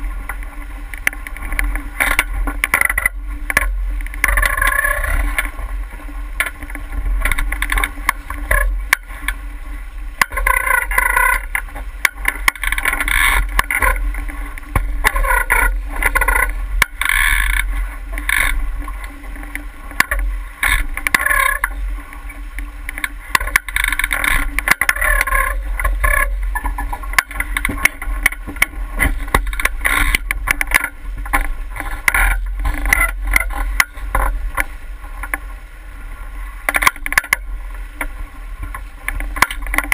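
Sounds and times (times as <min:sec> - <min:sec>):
steady low rumble: 0:00.0 - 0:39.9
water splashing along a hull: 0:00.0 - 0:39.9.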